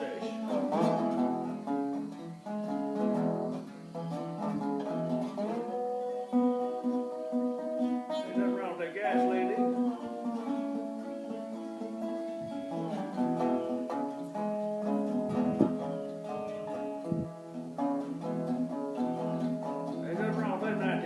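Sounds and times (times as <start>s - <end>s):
resonator guitar plucked notes: 0.0s - 21.0s.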